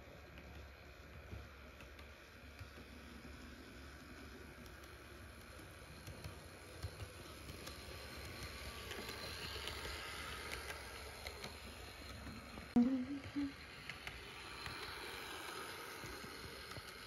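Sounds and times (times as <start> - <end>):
model train motor hum: 0.0 - 17.0
wheels clicking on rail joints: 0.0 - 17.0.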